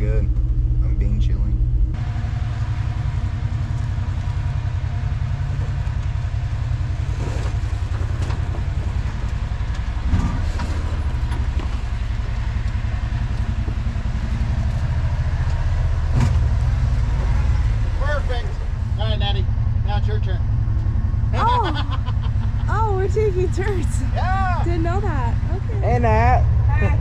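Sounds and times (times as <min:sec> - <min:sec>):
off-road engine rumbling: 0:00.0 - 0:27.0.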